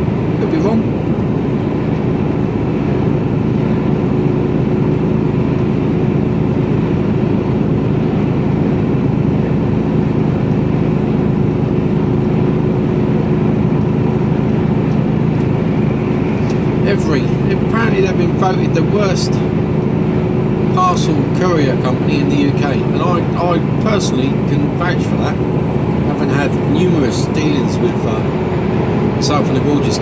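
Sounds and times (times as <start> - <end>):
diesel engine drone: 0.0 - 30.0
road noise: 0.0 - 30.0
steady low hum: 0.0 - 30.0.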